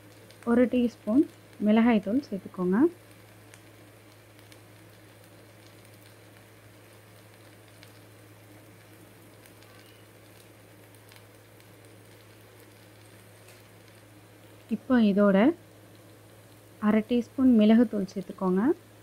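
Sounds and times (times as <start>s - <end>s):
potatoes sizzling in oil: 0.0s - 19.0s
small crackles: 0.0s - 19.0s
steady low hum: 0.0s - 19.0s.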